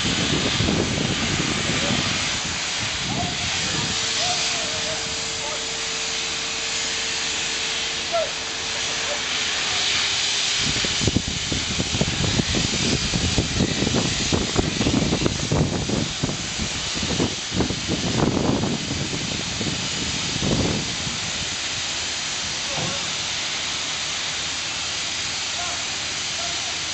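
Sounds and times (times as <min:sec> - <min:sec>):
grit blasting hiss: 0:00.0 - 0:26.9.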